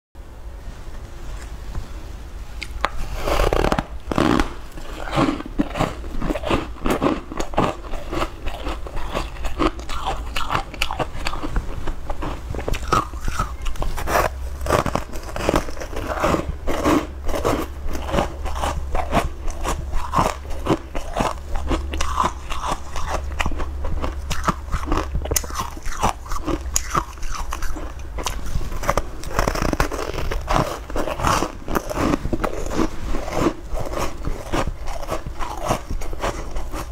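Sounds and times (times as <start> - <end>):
biting and chewing bread: 2.6 - 36.9.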